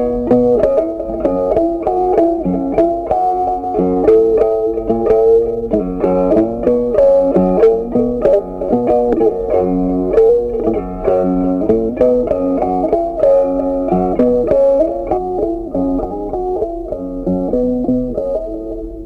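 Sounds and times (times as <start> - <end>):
plucked guitar melody: 0.0 - 19.0.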